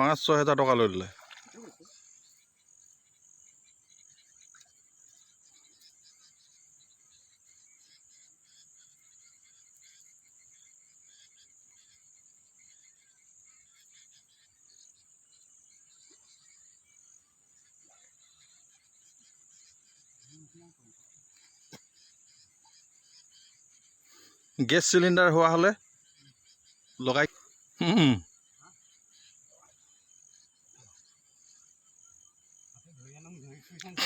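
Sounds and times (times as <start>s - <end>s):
insect chorus buzzing and chirping: 0.0s - 34.0s.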